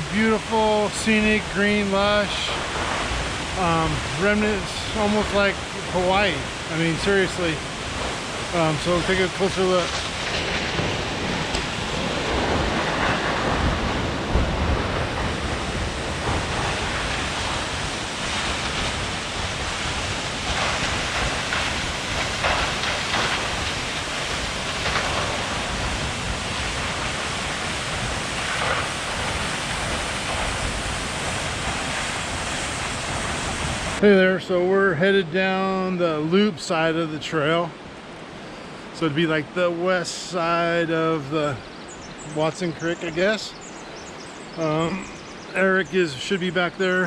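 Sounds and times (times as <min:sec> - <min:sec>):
waterfall rushing: 0:00.0 - 0:41.6, 0:44.6 - 0:47.0.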